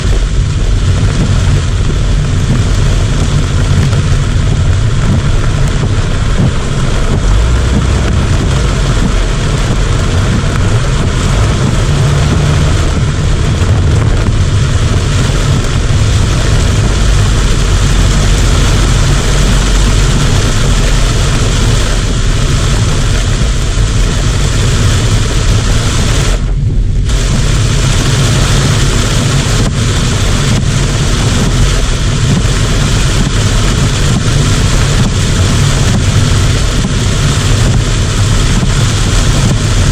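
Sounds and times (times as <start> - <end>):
deep rumble: 0.0 - 39.9
heavy rain hissing: 0.0 - 39.9.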